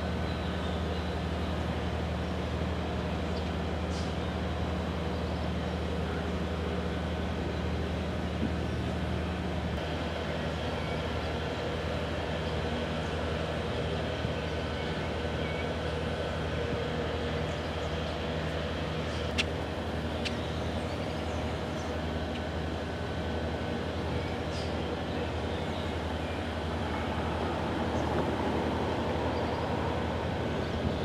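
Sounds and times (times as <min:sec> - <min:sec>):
ship engines droning: 0:00.0 - 0:31.0.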